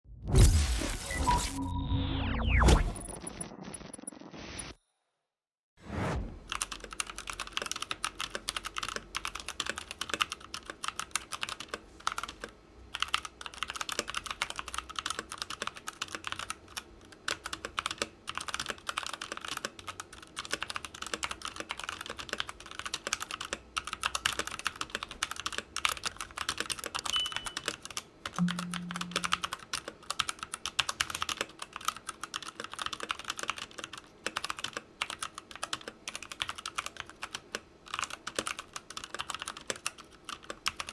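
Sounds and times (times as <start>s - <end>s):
mechanical keyboard typing: 6.5s - 40.9s.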